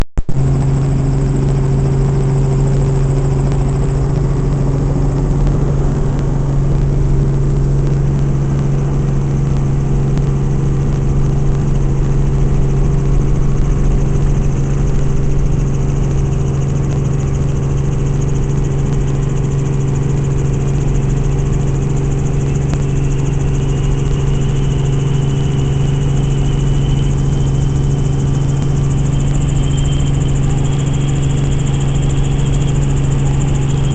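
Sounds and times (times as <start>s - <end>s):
helicopter engine and rotors: 0.2s - 33.9s
faint high whine: 0.3s - 33.9s.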